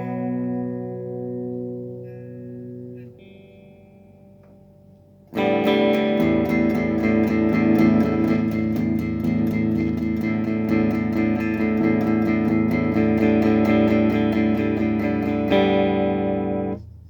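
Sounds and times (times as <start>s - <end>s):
electric guitar strumming: 0.0s - 17.0s.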